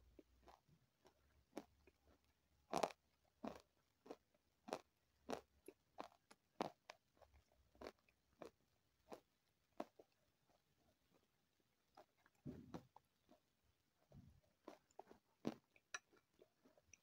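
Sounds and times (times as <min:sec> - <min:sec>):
chewing crunchy food: 0:00.1 - 0:17.0.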